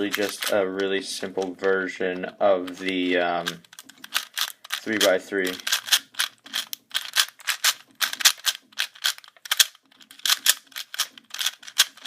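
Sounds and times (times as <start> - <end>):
plastic cube clacking: 0.0 - 12.0.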